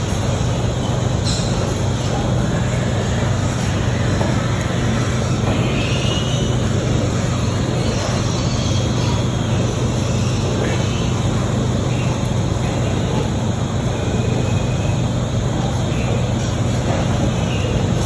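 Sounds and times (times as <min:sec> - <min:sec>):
loud mechanical droning: 0:00.0 - 0:18.0.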